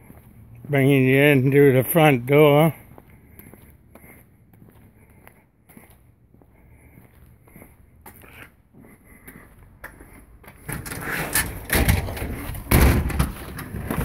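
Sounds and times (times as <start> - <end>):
faint footsteps: 0.0 - 10.8, 12.3 - 14.0.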